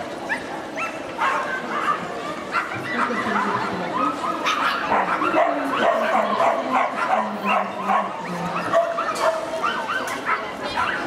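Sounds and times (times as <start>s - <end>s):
many dogs barking and yipping: 0.0s - 11.0s
people's voices: 0.0s - 11.0s.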